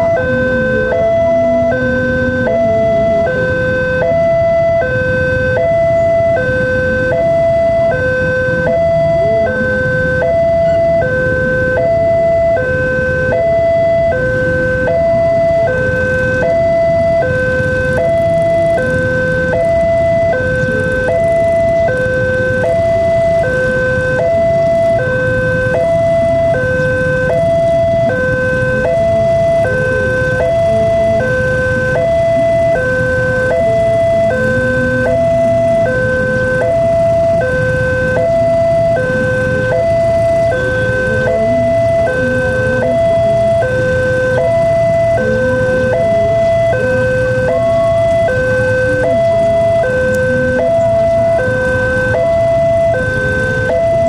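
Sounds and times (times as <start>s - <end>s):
two-tone crossing warning alarm: 0.0s - 54.0s.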